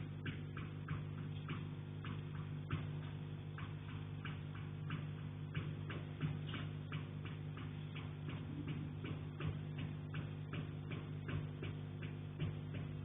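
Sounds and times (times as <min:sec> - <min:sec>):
steady low hum: 0:00.0 - 0:13.0
tapping on a window: 0:00.0 - 0:13.0.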